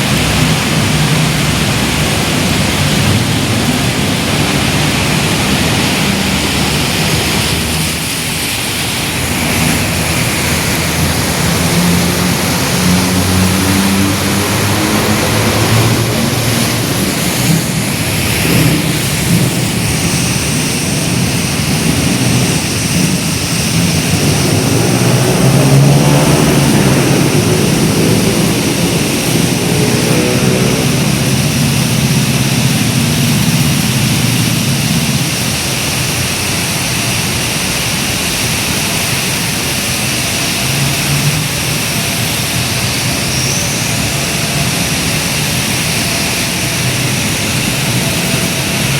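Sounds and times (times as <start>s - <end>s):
tyres hissing on wet road: 0.0s - 48.9s
vehicle engines: 0.0s - 48.9s
vehicle passing close: 0.0s - 48.9s.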